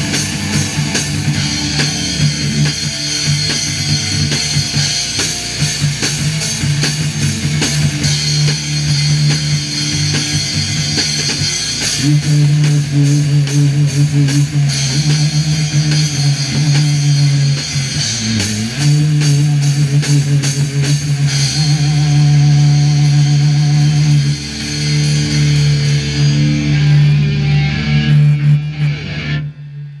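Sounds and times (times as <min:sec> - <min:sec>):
drum kit with crashing cymbals: 0:00.0 - 0:29.0
distorted electric guitars: 0:00.0 - 0:30.0.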